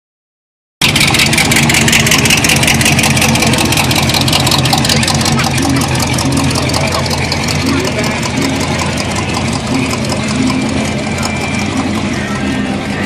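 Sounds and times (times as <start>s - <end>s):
truck engine idling loudly: 0.8s - 13.0s.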